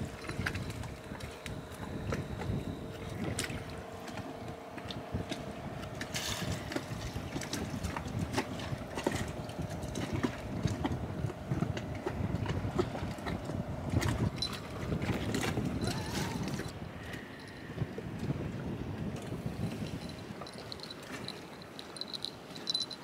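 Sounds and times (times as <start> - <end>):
water rushing along hull: 0.0 - 23.0
wind on microphone: 0.0 - 23.0.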